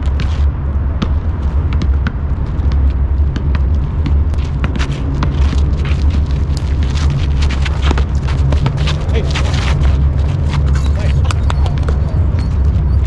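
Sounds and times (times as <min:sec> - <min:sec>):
sneakers on hard court: 0:00.0 - 0:12.9
basketball dribbling: 0:00.0 - 0:13.0.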